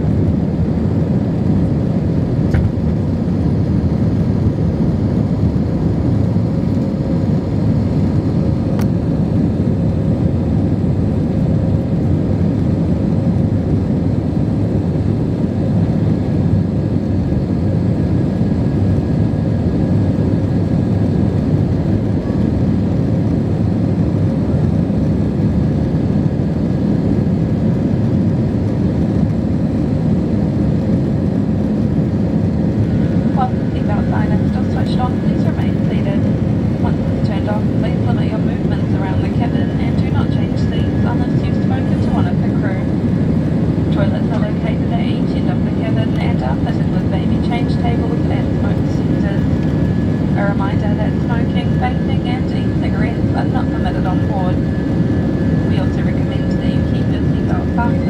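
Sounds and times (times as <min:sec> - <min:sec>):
airplane cabin engine hum: 0:00.0 - 0:58.0.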